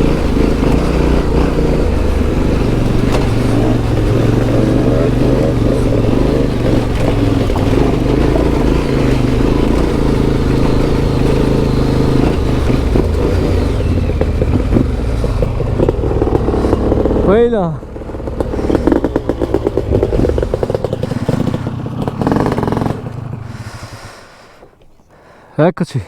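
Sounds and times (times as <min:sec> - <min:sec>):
knocks and clatter: 0:00.0 - 0:23.6
motorcycle engine riding off-road: 0:00.0 - 0:25.4.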